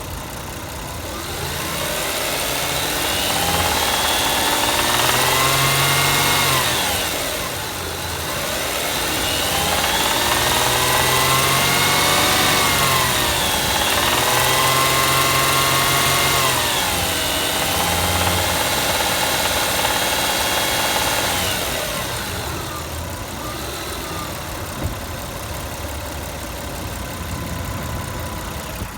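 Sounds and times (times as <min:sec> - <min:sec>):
car engine revving and idling: 0:00.0 - 0:28.9
engine knocking: 0:00.0 - 0:28.9.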